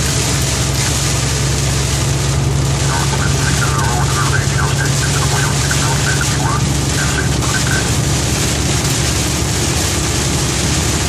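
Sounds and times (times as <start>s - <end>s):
engine hum: 0.0s - 11.0s
rain and road spray hiss: 0.0s - 11.0s.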